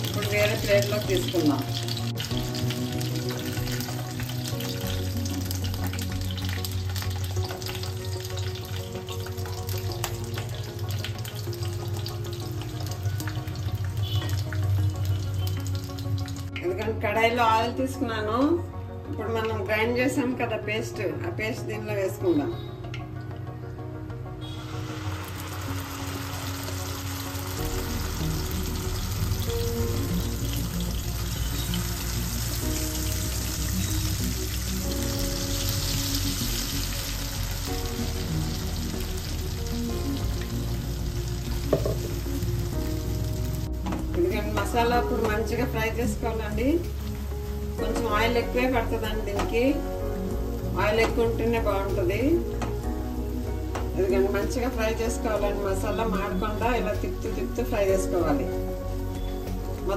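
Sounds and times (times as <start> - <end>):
chillies sizzling in oil: 0.0 - 18.3, 24.4 - 59.9.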